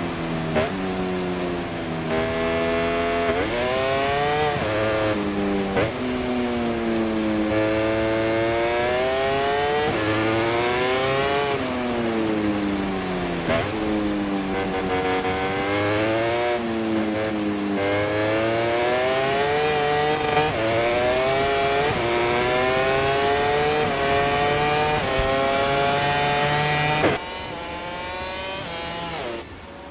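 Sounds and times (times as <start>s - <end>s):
racing motorcycle engine revving: 0.0s - 29.9s.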